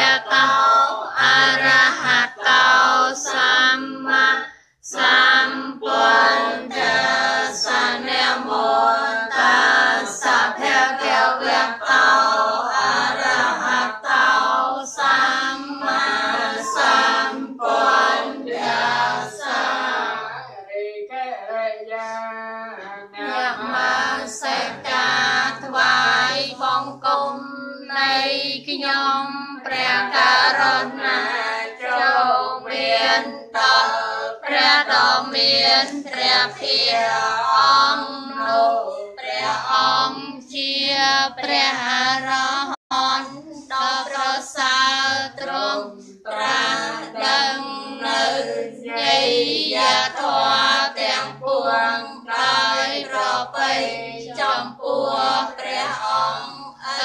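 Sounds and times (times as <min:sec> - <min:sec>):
women chanting in unison: 0:00.0 - 0:57.0.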